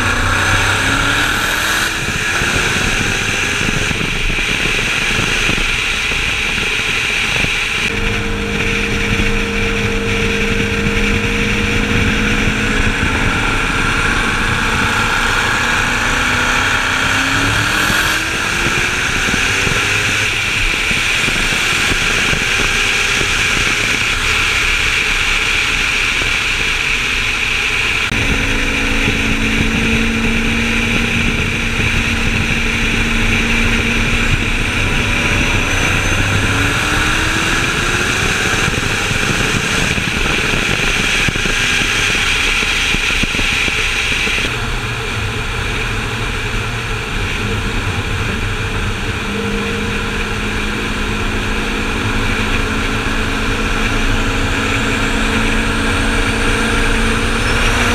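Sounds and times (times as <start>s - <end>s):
car engines cruising: 0.0s - 57.9s
wind and road noise: 0.0s - 57.9s.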